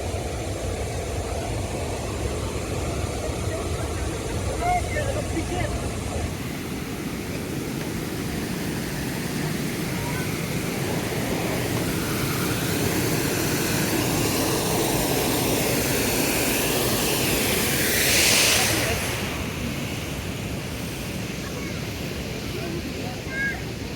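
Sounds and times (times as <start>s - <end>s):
steady rushing noise: 0.0s - 23.9s.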